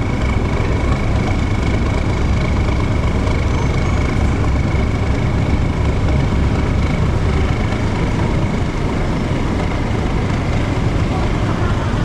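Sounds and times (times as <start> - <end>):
ferry engines rumbling: 0.0 - 12.0
thin steady whine: 0.0 - 12.0.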